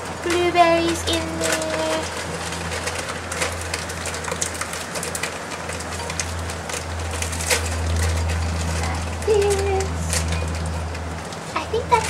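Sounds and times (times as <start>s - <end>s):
frozen berries pattering into jug: 0.0s - 12.0s.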